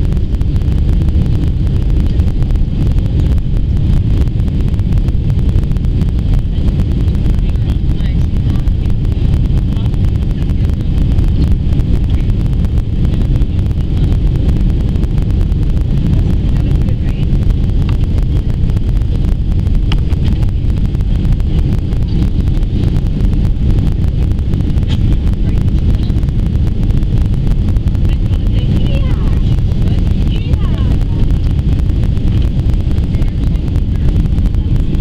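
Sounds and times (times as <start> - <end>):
airplane cabin engine roar: 0.0 - 35.0.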